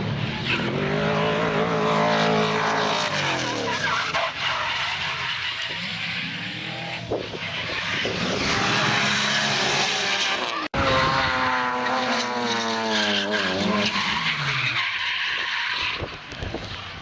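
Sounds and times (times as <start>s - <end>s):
car engine at high revs: 0.0s - 17.0s
tyre squeal: 0.3s - 10.7s, 11.8s - 16.8s.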